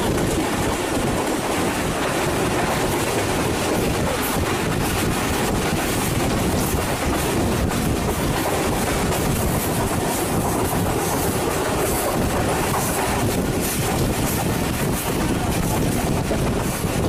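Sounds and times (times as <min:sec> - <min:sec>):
train wheels on the track: 0:00.0 - 0:17.0.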